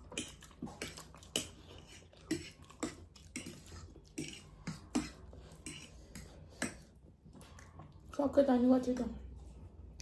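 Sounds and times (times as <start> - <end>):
noodles being slurped and chewed: 0.0 - 8.4.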